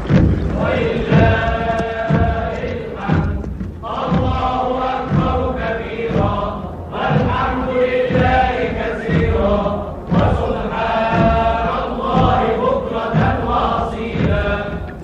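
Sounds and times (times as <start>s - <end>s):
low drum-like thud: 0.0s - 15.0s
voices chanting together: 0.0s - 15.0s.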